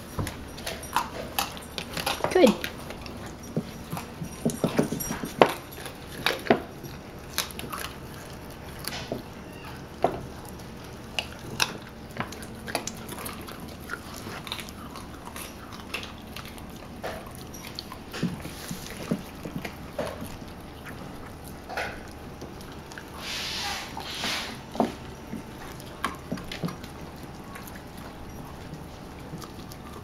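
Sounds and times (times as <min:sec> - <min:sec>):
puppies crunching bones: 0:00.0 - 0:30.0.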